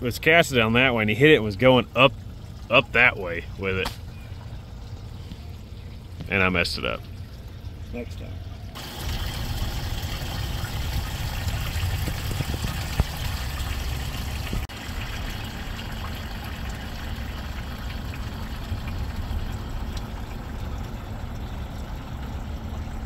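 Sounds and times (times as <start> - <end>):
boat motor running: 0.6 - 23.0
water rushing past hull: 0.6 - 23.0.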